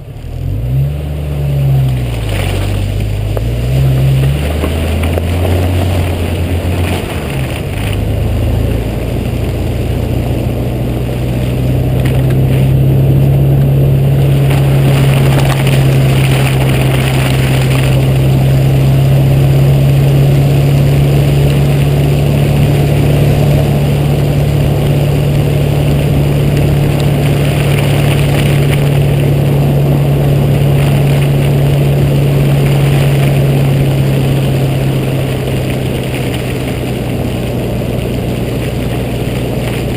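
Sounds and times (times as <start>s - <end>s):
car engine droning: 0.0s - 39.9s
road and tyre noise: 0.0s - 39.9s.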